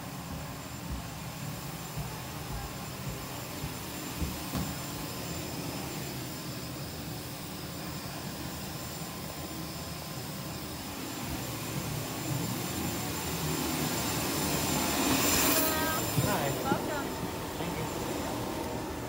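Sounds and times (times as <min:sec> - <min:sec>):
jet engine running: 0:00.0 - 0:19.0.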